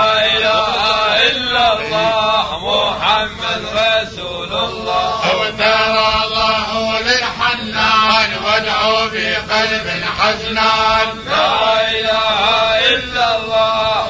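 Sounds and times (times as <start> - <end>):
men singing a devotional chant: 0.0 - 14.0.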